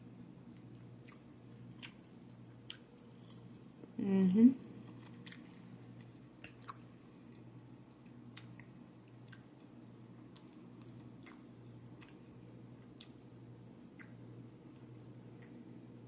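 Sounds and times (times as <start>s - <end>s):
steady low hum: 0.0s - 16.0s
wet chewing: 0.5s - 3.9s, 4.6s - 9.5s, 10.3s - 16.0s.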